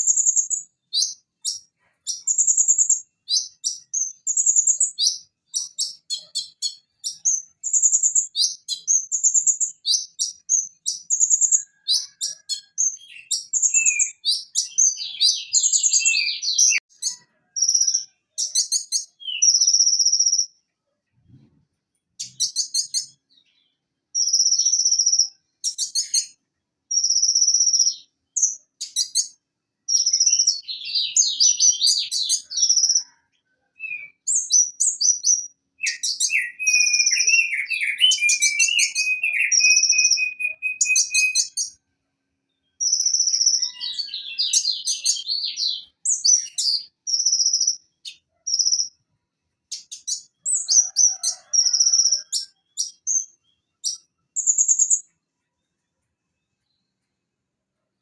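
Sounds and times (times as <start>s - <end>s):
sunbird singing high trills: 0.0s - 20.6s, 22.2s - 33.2s, 33.8s - 41.8s, 42.6s - 49.0s, 51.6s - 55.1s.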